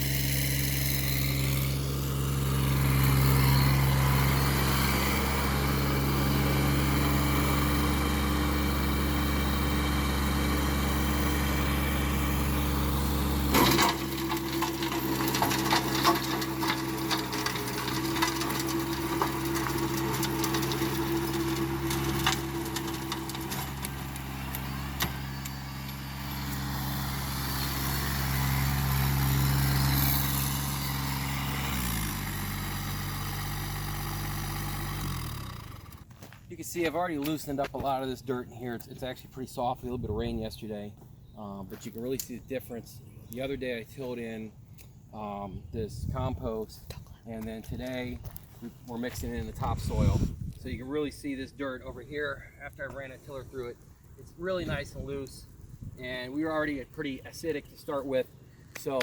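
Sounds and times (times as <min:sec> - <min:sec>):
tractor diesel engine running: 0:00.0 - 0:39.2, 0:47.4 - 0:59.0.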